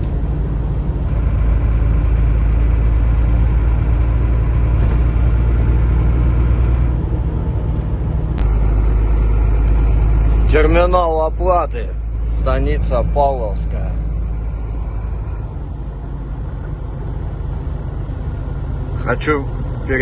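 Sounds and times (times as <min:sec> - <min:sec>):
road noise: 0:00.0 - 0:20.0
truck engine rumble: 0:00.0 - 0:20.0.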